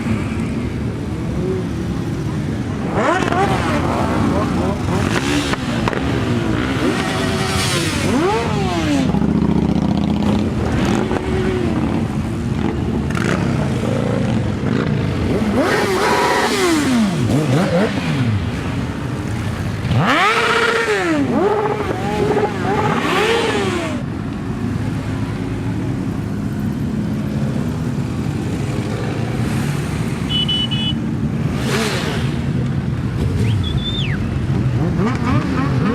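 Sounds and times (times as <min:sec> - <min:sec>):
motorcycle engines revving: 0:00.0 - 0:35.9.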